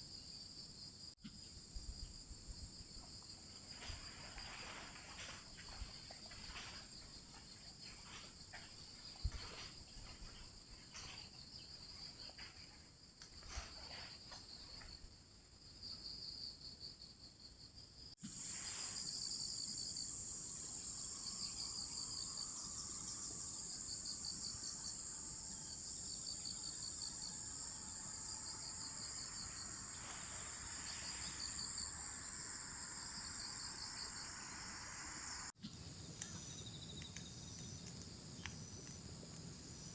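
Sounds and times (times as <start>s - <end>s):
crickets and insects trilling: 0.1s - 17.1s, 18.2s - 39.9s.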